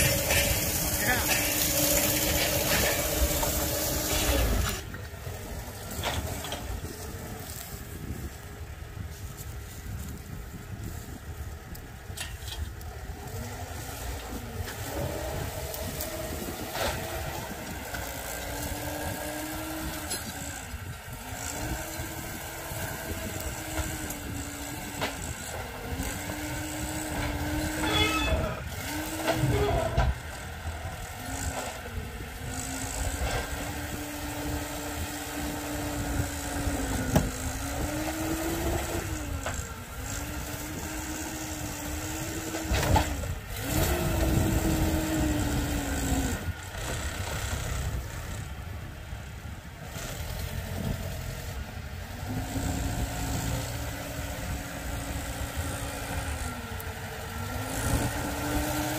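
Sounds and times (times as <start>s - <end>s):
machine engine whine: 0.0s - 58.9s.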